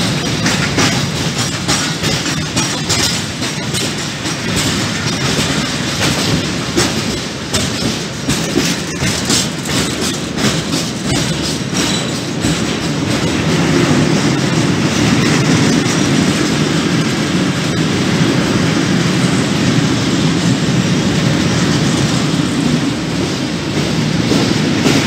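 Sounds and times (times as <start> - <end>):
train wheels rumbling on rail: 0.0 - 25.0
wheels clacking over rail joints: 0.0 - 25.0.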